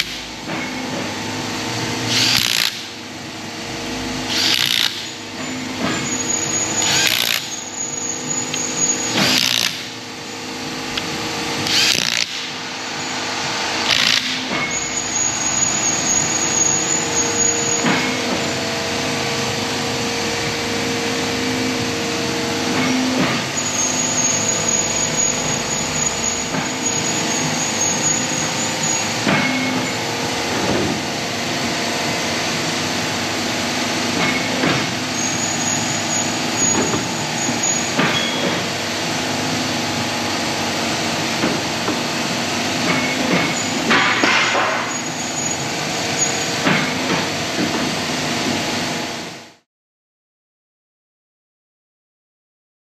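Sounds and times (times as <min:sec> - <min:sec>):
workshop machinery humming: 0:00.0 - 0:49.6.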